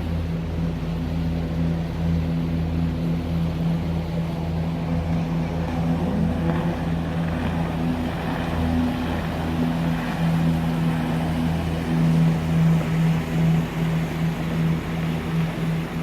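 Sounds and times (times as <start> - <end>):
boat engines humming: 0.0 - 16.0
water rushing: 0.0 - 16.0
wind: 0.0 - 16.0.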